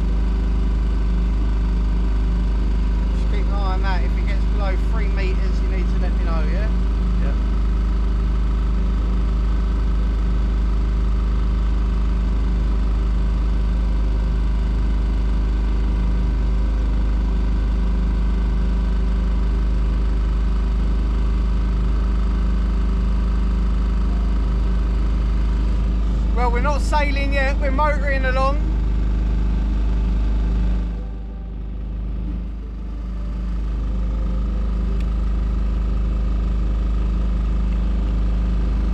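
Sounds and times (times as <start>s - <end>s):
boat motor droning: 0.0s - 38.9s.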